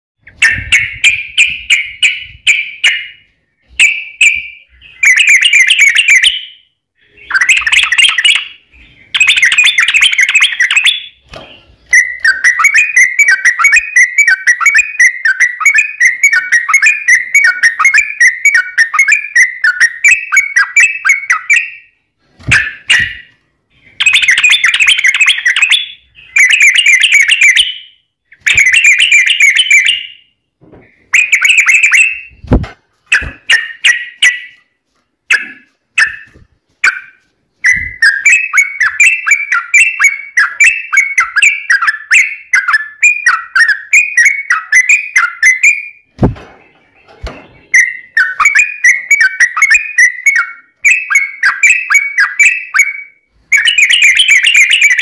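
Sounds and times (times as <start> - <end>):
bird singing liquid phrases: 0.2 - 22.0, 22.6 - 32.4, 35.3 - 55.0.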